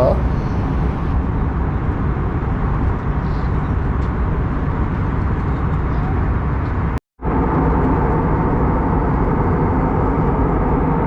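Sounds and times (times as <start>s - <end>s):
airplane cabin noise: 0.0s - 1.2s, 1.9s - 11.0s.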